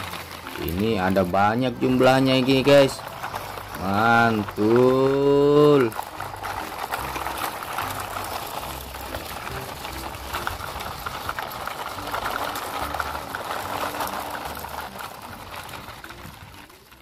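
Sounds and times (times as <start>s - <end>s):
toy trucks rolling over gravel: 0.0s - 17.0s.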